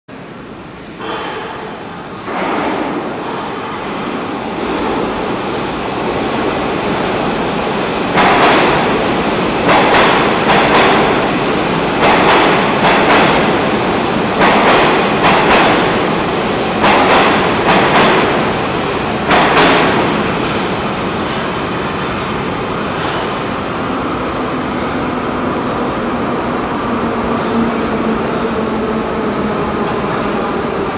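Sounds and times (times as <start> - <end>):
metro train rumbling: 0.1 - 30.9.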